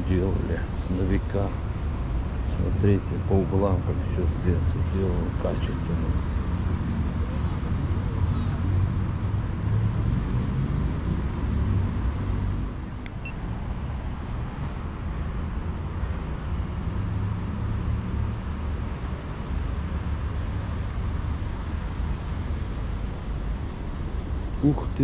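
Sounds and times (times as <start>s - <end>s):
street noise rumble: 0.0s - 25.0s.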